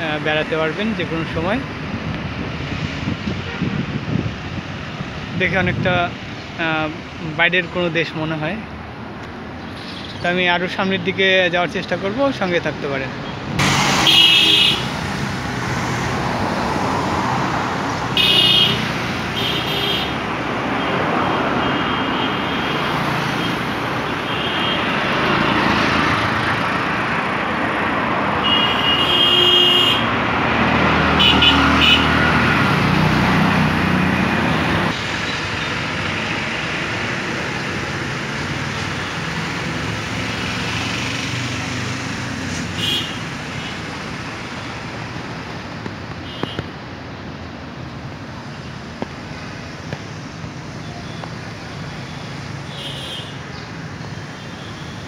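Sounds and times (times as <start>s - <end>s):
traffic engine and tyre noise: 0.0s - 55.0s.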